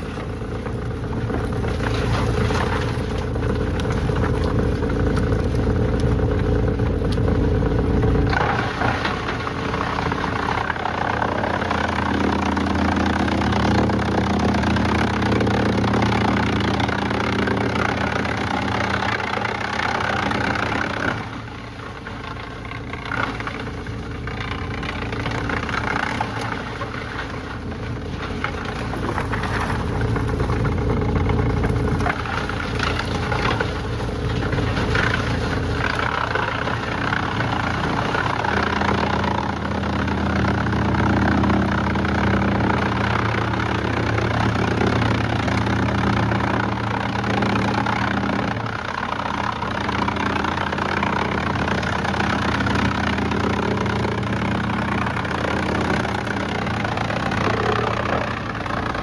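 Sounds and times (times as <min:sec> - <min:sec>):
machinery engine running: 0:00.0 - 0:59.0.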